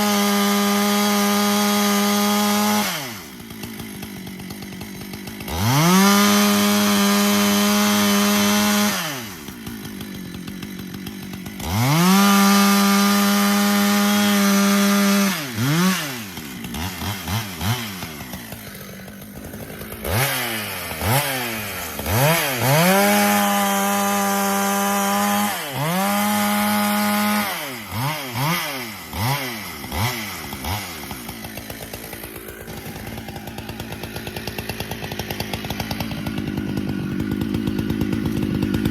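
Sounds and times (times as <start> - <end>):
chainsaw engine cutting wood: 0.0 - 38.9.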